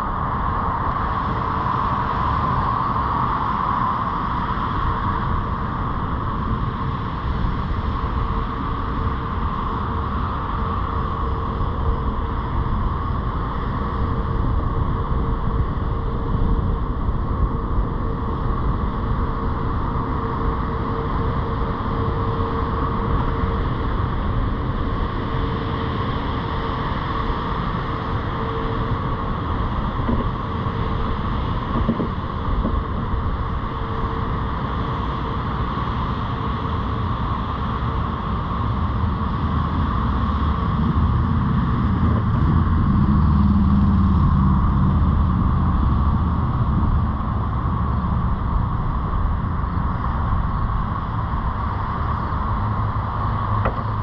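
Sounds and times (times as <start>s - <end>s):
car engine and tyre noise: 0.0s - 54.0s
faint steady hum: 0.0s - 54.0s.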